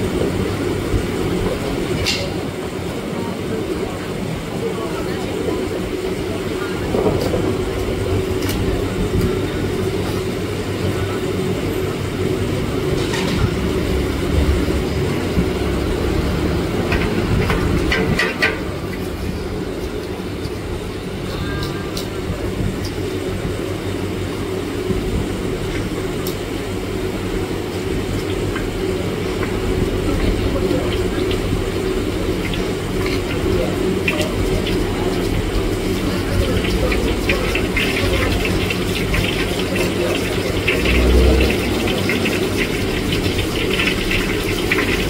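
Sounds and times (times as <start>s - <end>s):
gas burner roaring: 0.0s - 45.0s.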